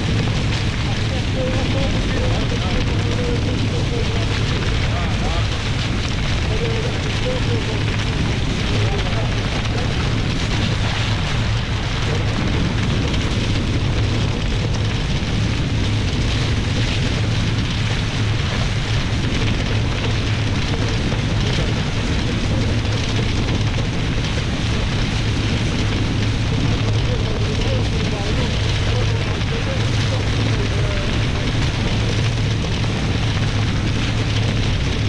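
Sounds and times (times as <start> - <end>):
wind on the microphone: 0.0 - 35.0.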